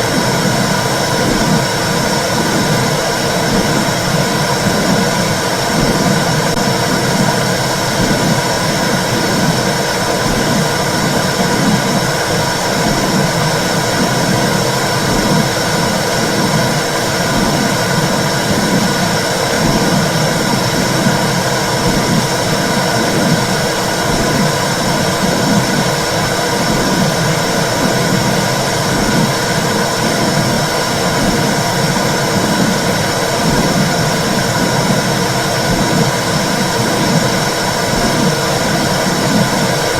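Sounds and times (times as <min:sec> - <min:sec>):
low whooshing pulse: 0:00.0 - 0:39.9.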